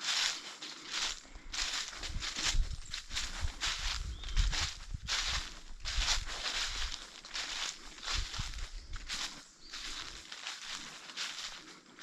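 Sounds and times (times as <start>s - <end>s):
footsteps crunching on forest floor: 0.0s - 12.0s.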